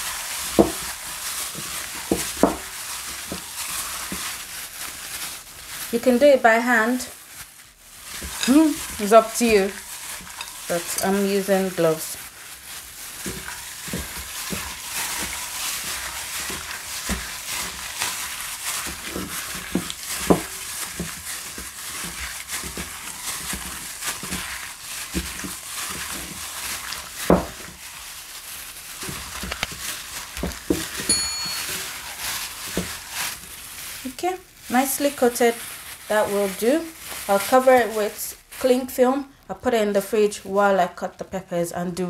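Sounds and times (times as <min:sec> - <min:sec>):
wet squelching of raw chicken: 0:00.0 - 0:06.0, 0:06.7 - 0:31.1, 0:31.8 - 0:38.8
plastic gloves crinkling: 0:00.0 - 0:40.7.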